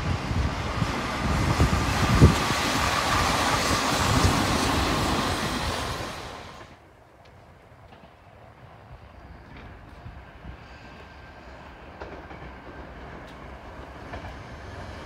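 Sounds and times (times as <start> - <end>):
electric train whine: 0.0 - 15.0
train wheels rumbling on rail: 0.0 - 15.0.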